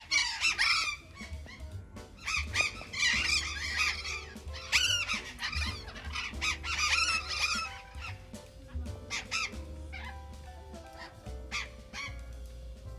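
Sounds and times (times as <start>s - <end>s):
parrots screeching: 0.0s - 12.3s
musical backing: 0.0s - 12.9s.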